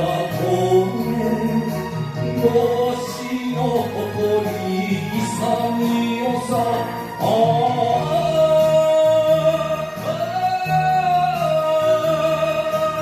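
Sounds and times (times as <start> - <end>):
backing music with pulsing bass: 0.0 - 13.0.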